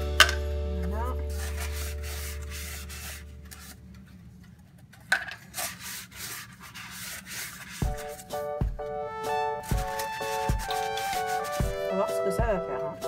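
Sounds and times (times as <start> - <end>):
paper cups rustling: 0.0 - 8.5, 9.3 - 13.0.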